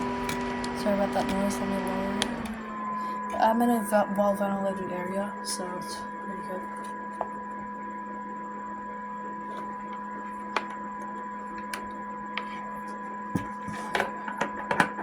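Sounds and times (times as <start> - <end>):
electric fan motor hum: 0.0 - 15.0.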